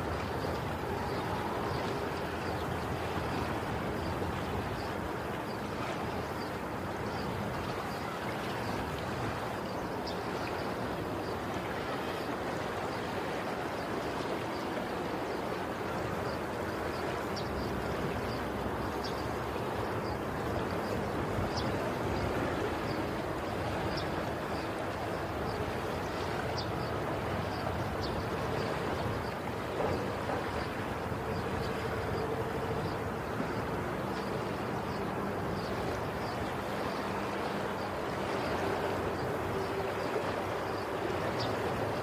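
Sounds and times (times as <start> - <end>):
flowing water rushing: 0.0 - 42.0.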